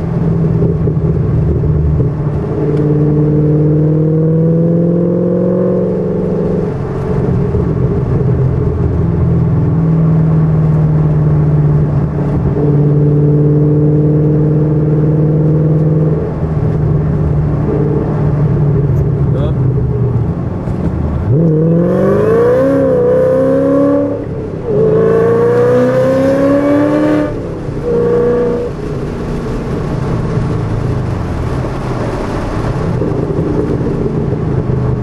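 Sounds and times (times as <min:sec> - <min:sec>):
car engine at speed from cabin: 0:00.0 - 0:35.0.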